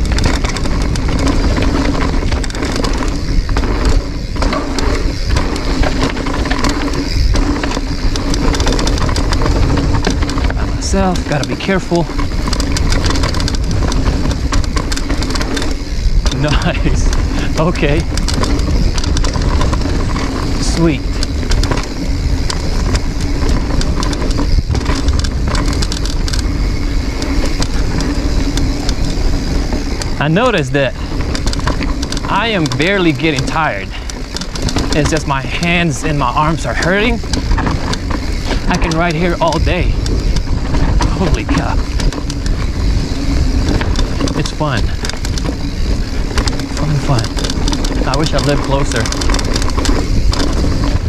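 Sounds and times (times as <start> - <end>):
bike tyres rumbling over rock: 0.0 - 51.0
chain and frame rattling: 0.0 - 51.0
wind rushing over microphone: 0.0 - 51.0.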